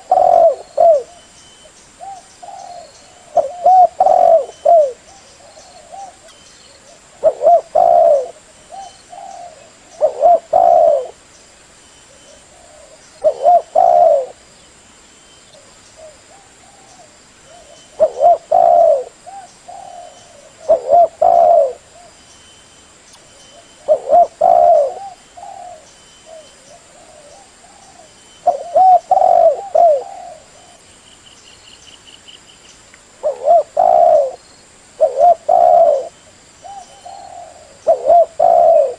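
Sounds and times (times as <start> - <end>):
dove cooing: 0.0 - 1.3, 2.0 - 11.2, 12.1 - 14.4, 15.5 - 22.2, 23.5 - 30.9, 33.2 - 34.4, 35.0 - 38.9.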